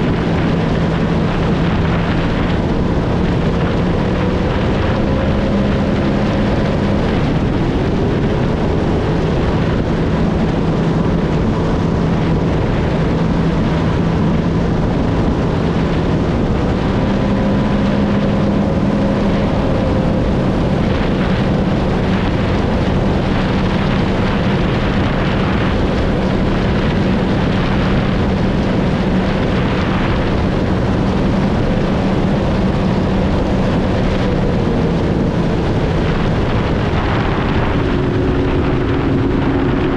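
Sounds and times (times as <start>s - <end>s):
water rushing against hull: 0.0s - 39.9s
watercraft engine droning: 0.0s - 39.9s.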